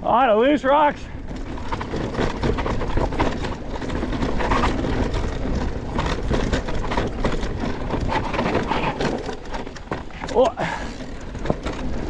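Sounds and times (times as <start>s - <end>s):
bike rattling and knocking: 0.8s - 12.0s
tyres crunching over rocks: 1.2s - 12.0s.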